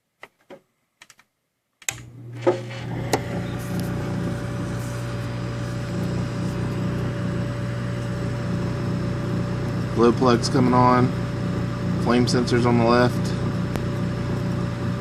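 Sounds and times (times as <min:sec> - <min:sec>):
fan motor humming: 0:01.9 - 0:15.0.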